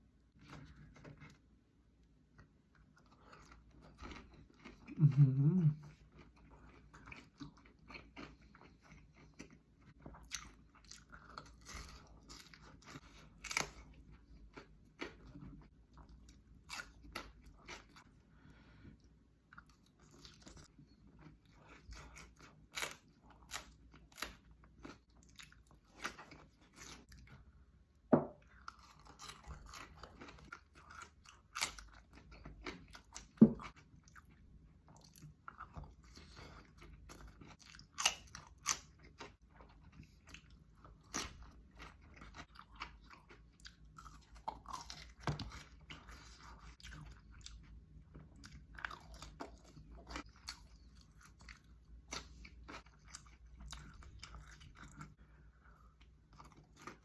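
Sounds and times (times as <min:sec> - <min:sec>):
wet chewing and crunching: 0:00.3 - 0:57.0.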